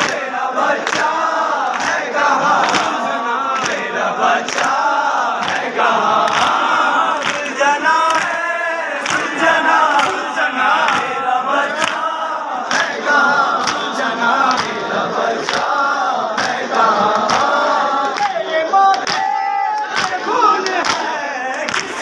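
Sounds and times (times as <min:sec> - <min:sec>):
men chanting a lament: 0:00.0 - 0:22.0.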